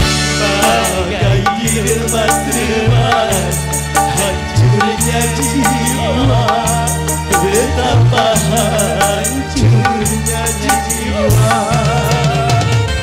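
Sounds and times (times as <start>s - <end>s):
bass line: 0.0s - 13.0s
hand drums: 0.0s - 13.0s
wavering lead melody: 0.0s - 13.0s.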